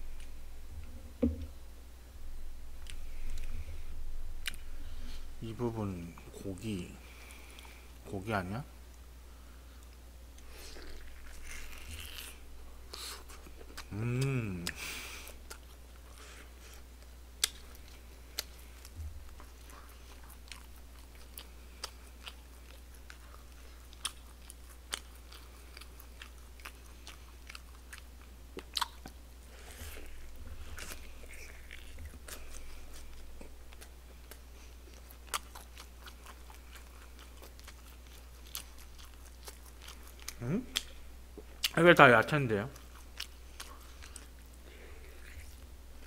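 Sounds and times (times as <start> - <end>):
steady low hum: 0.0 - 46.0
person chewing: 2.8 - 5.3, 9.8 - 41.8, 42.7 - 46.0.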